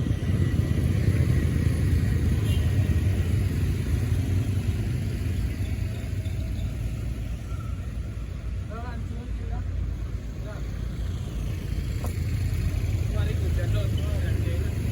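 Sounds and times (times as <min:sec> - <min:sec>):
motor vehicle rumbling on road: 0:00.0 - 0:14.9.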